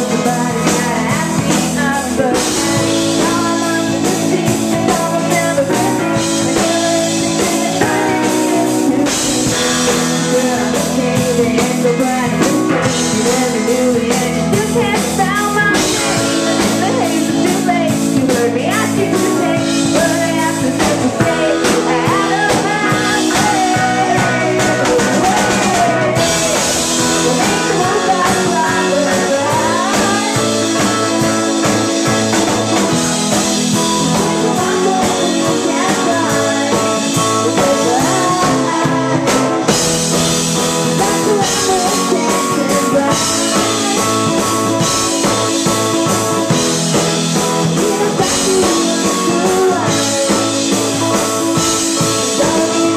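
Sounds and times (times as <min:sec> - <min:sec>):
live rock band playing: 0:00.0 - 0:52.9
woman singing: 0:00.0 - 0:52.9.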